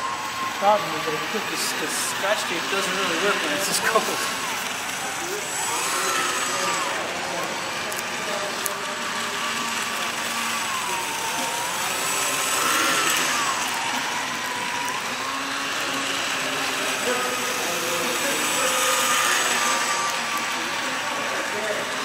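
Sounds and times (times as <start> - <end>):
whirring machine with faint whine: 0.0 - 22.0.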